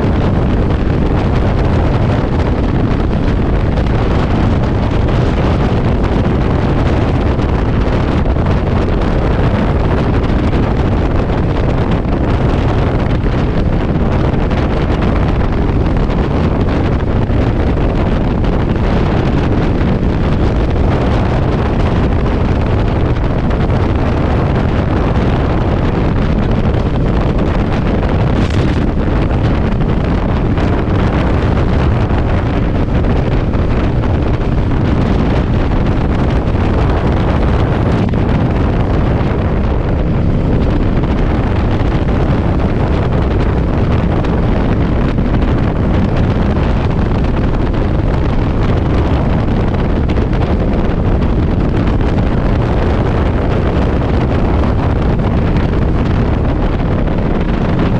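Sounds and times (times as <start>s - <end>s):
motorcycle noise: 0.0s - 57.9s
wind battering microphone: 0.0s - 57.9s.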